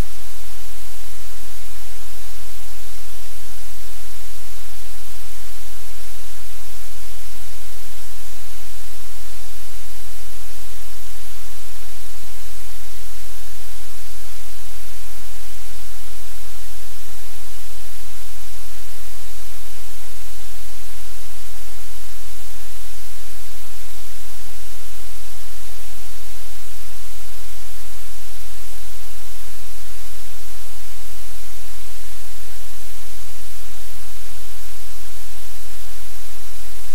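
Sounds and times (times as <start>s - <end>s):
low electrical hum: 0.0s - 36.9s
static hiss: 0.0s - 36.9s.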